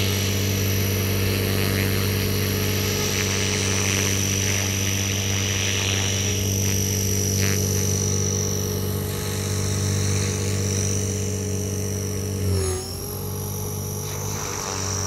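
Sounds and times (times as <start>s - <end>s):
rc helicopter buzzing and whining: 0.0s - 15.0s.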